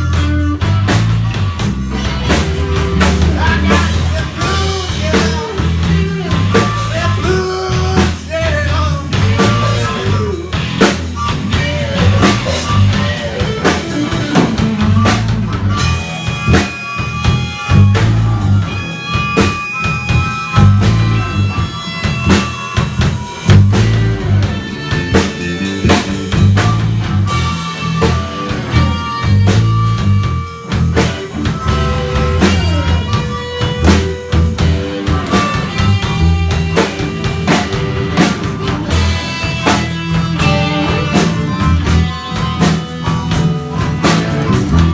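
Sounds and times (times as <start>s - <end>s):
drum kit with rimshots: 0.0s - 44.9s
live rock band playing: 0.0s - 44.9s.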